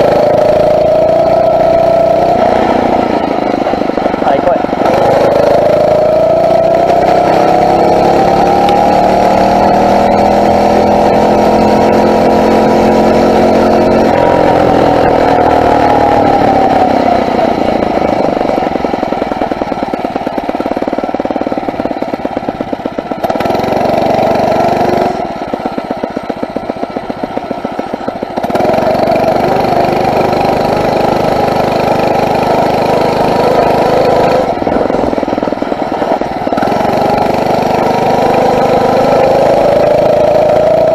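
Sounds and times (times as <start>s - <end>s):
motorized bicycle engine running: 0.0s - 40.9s.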